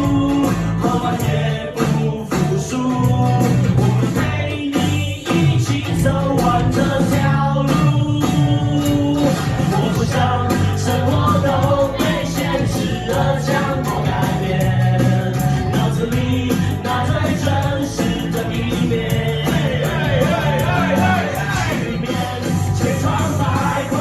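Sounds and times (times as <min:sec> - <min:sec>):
person singing: 0:00.0 - 0:24.0
rock band playing live: 0:00.0 - 0:24.0.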